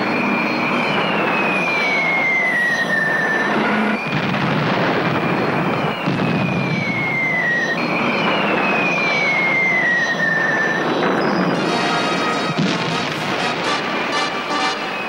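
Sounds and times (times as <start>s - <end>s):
falling bomb whistles: 0.0s - 15.0s.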